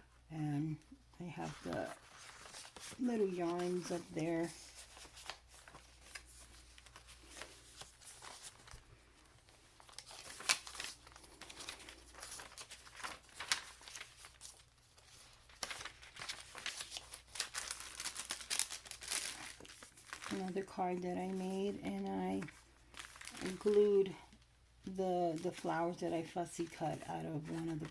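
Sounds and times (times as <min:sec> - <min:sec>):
paper pages rustling and crinkling: 0:01.4 - 0:27.9.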